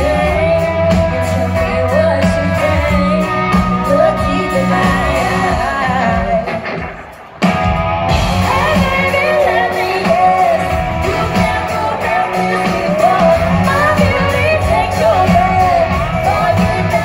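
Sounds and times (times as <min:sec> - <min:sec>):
women singing: 0:00.0 - 0:06.5, 0:08.3 - 0:17.0
electric guitars: 0:00.0 - 0:17.0
keyboards: 0:00.0 - 0:17.0.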